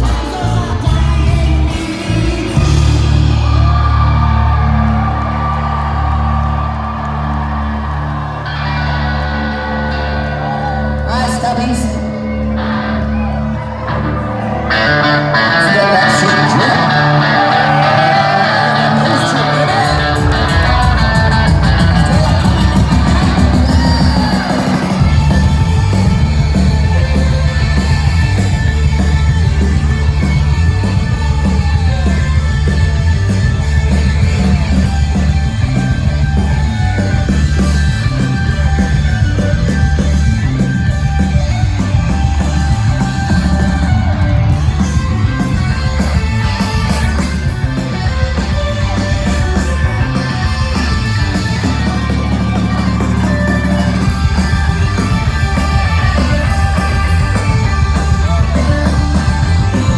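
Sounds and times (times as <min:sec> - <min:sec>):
live rock band playing: 0:00.0 - 0:59.9
shouted vocals: 0:00.0 - 0:59.9.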